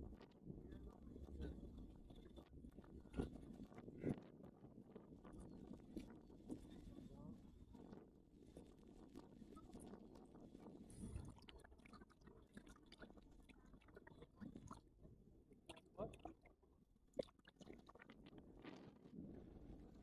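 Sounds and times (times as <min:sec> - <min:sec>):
soft clicks and crackles: 0:00.0 - 0:20.0.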